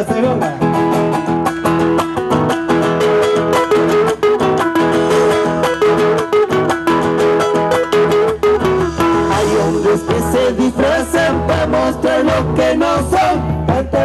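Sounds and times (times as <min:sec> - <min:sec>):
guitar strummed quickly: 0:00.0 - 0:14.0
sustained melody line: 0:01.3 - 0:13.8.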